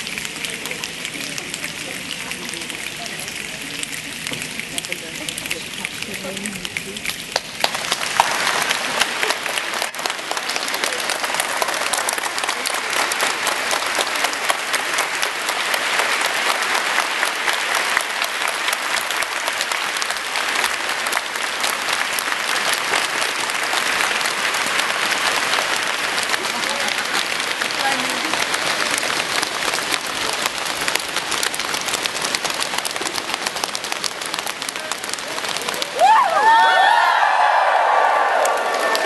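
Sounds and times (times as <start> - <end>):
crowd clapping and slapping: 0.0 - 39.0.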